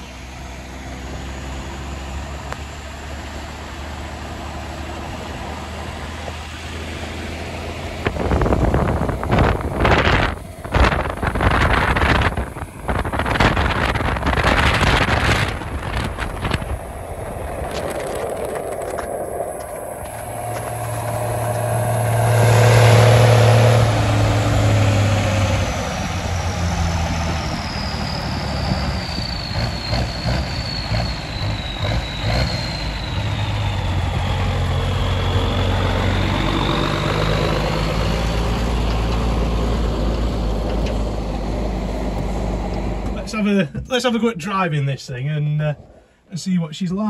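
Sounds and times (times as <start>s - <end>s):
truck engine running: 0.0s - 44.6s
high whine falling in pitch: 5.0s - 44.2s.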